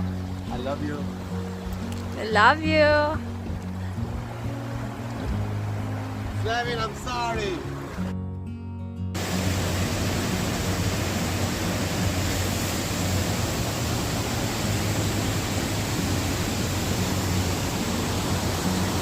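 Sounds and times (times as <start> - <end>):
waterfall rushing: 0.0 - 8.1, 9.2 - 19.0.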